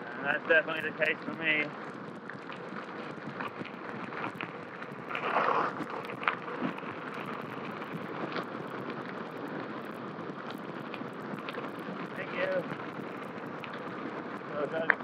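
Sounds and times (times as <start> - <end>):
bike tyres rolling on gravel: 0.0 - 15.0
small ticks: 0.0 - 15.0
wind on microphone: 0.0 - 15.0.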